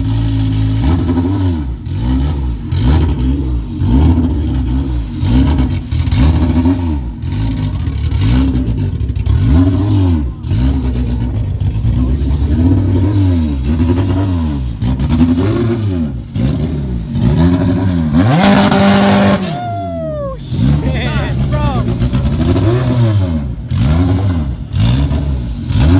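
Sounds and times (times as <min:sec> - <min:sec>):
car engines revving: 0:00.0 - 0:25.9.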